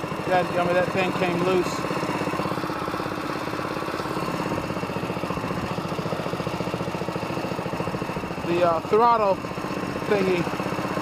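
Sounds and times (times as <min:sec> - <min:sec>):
small gas engine idling: 0:00.0 - 0:11.0.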